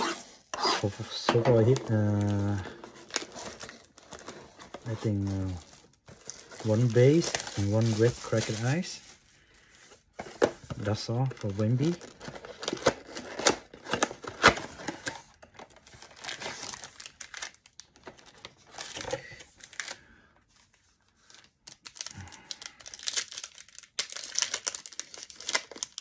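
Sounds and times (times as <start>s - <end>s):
foil packs crinkling: 1.1s - 9.8s, 10.8s - 20.2s, 21.2s - 26.0s.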